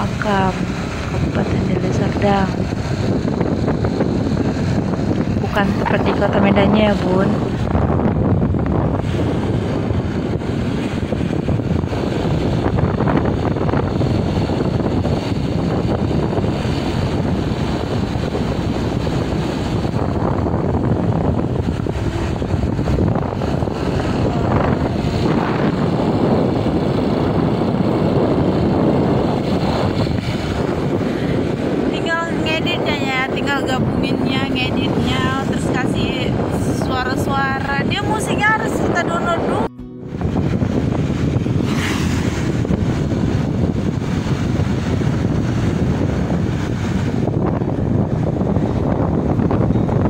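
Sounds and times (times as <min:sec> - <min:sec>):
motorcycle engine running: 0:00.0 - 0:50.0
wind rushing over microphone: 0:00.0 - 0:50.0.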